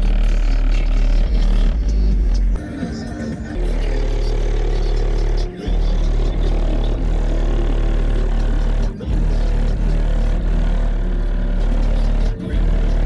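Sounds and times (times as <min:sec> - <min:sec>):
deep subwoofer bass notes: 0:00.0 - 0:13.0.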